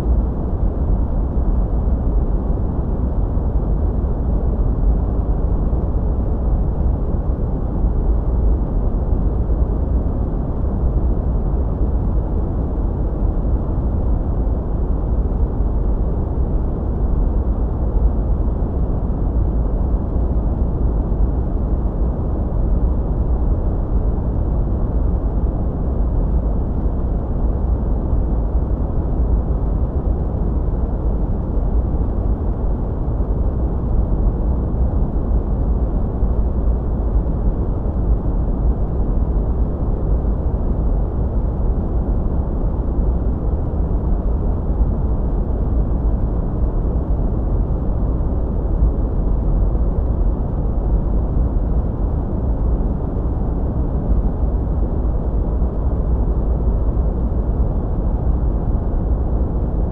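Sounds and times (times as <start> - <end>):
deep muffled brown noise: 0.0 - 59.9.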